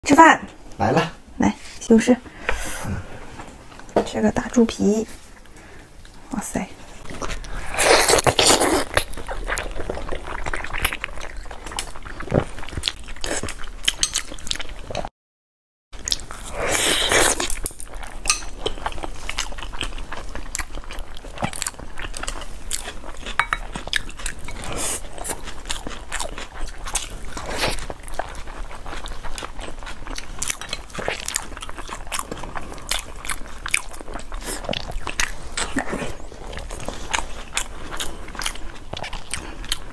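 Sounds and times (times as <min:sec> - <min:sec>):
person chewing and smacking: 0:07.0 - 0:15.1, 0:16.0 - 0:39.9.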